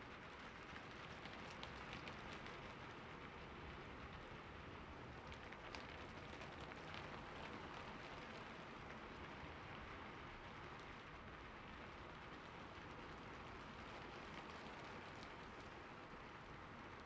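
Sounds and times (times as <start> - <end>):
rain on a roof: 0.0 - 17.0.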